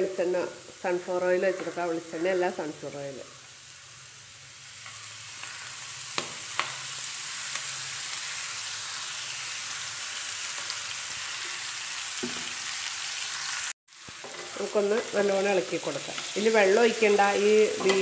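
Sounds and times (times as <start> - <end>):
chicken sizzling in pan: 0.0 - 18.0.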